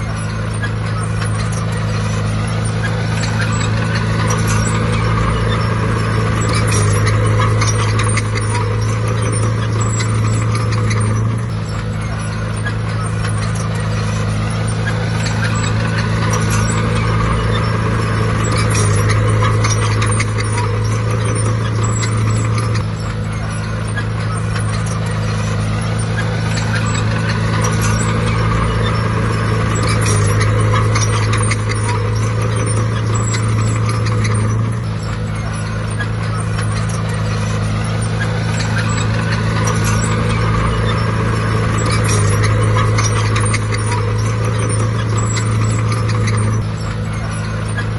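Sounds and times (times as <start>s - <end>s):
bulldozer diesel engine: 0.0s - 47.9s
steel tracks clanking: 0.0s - 47.9s.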